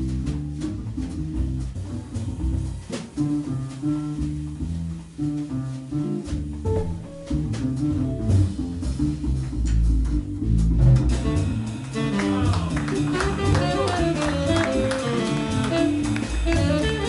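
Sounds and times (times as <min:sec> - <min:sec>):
double bass: 0:00.0 - 0:17.0
jazz guitar solo: 0:00.0 - 0:17.0
light drums: 0:00.0 - 0:17.0.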